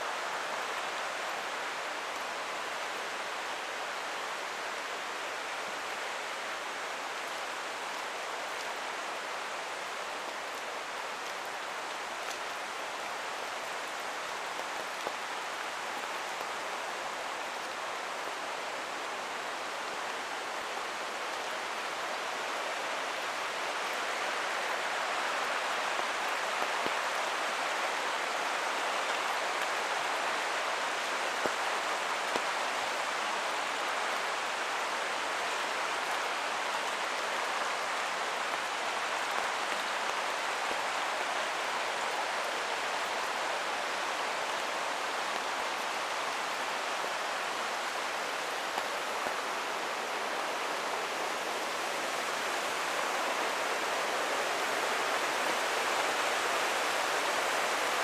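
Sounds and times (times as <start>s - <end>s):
rain falling: 0.0s - 58.0s
rushing creek: 0.0s - 58.0s.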